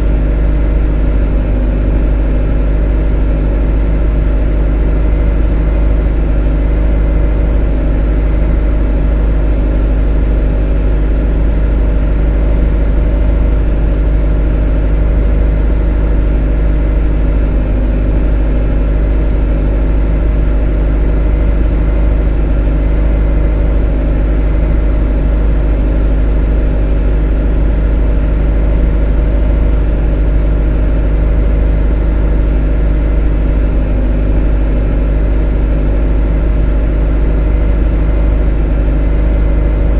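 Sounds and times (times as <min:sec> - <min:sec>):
motor droning: 0:00.0 - 0:39.9.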